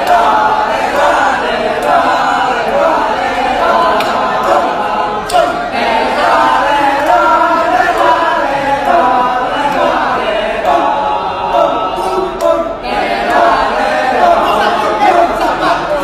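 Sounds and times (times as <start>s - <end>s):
chorus of voices chanting: 0.0s - 16.0s.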